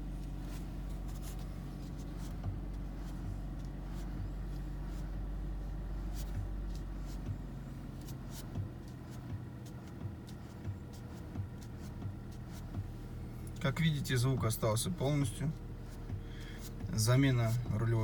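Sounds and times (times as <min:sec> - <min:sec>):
car engine idling: 0:00.0 - 0:18.0
steering knocking: 0:00.0 - 0:18.0.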